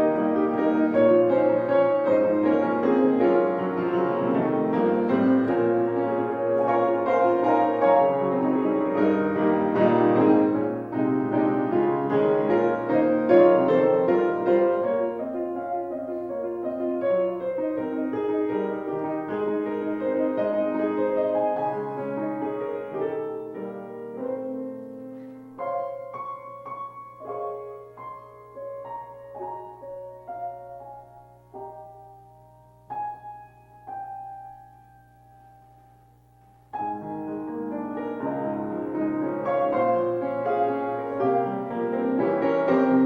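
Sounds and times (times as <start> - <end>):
piano playing: 0.0 - 43.0.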